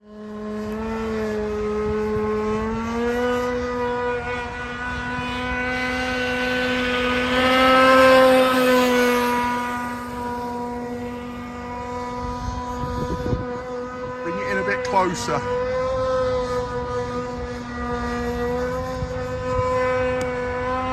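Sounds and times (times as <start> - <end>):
model boat engine buzzing: 0.0 - 20.9.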